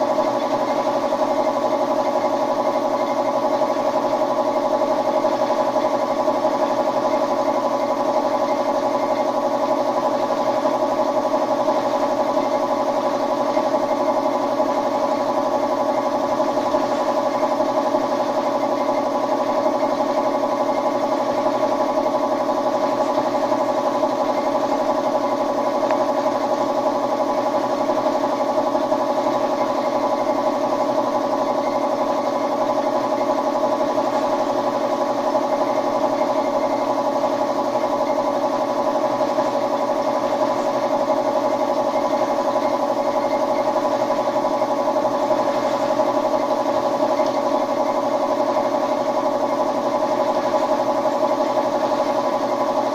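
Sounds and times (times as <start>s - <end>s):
air compressor humming: 0.0s - 52.9s.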